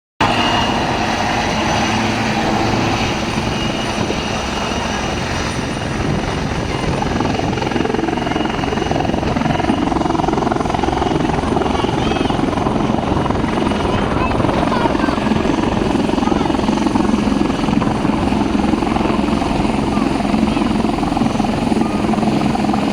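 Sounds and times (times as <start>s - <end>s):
helicopter flying: 0.2s - 22.9s.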